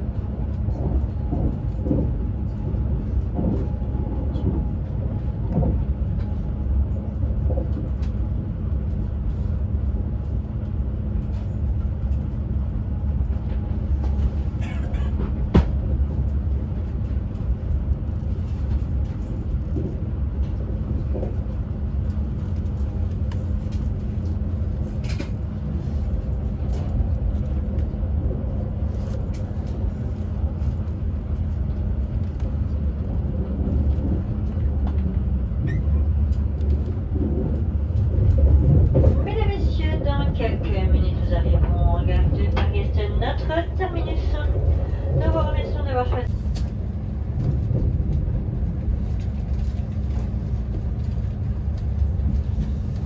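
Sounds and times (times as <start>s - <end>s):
constant hum: 0.0s - 53.0s
train rumble from inside carriage: 0.0s - 53.0s.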